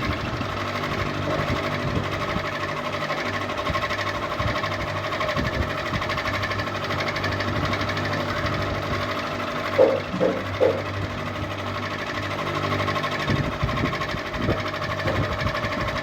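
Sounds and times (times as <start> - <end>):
ceiling fan humming and rattling: 0.0 - 16.0.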